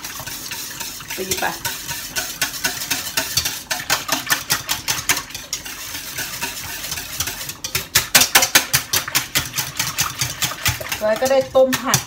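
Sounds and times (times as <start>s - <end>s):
whisk beating in metal bowl: 0.0s - 12.0s.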